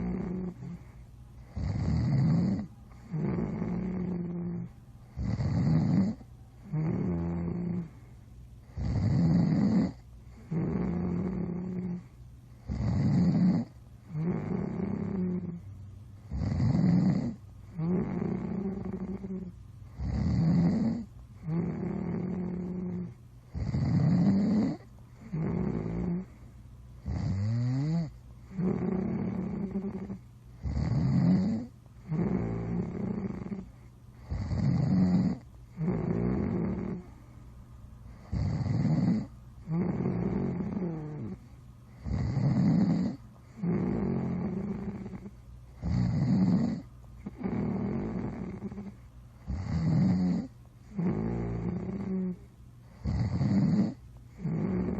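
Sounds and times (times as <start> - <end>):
rasping snoring: 0.0 - 8.0, 8.6 - 15.6, 16.2 - 26.4, 27.0 - 37.2, 38.1 - 54.9.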